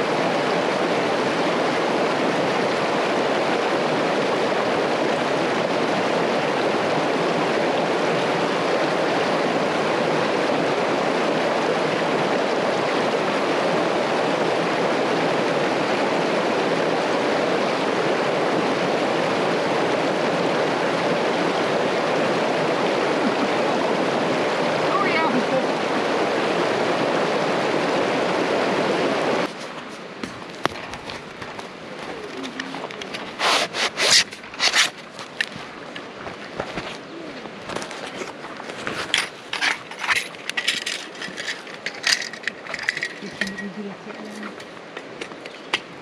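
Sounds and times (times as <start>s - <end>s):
river water rushing over rocks: 0.0s - 46.0s.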